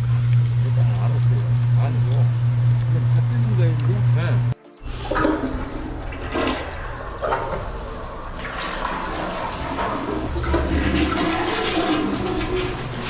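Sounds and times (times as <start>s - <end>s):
toilet flushing: 0.0s - 13.0s
water rushing down drain: 0.0s - 13.0s.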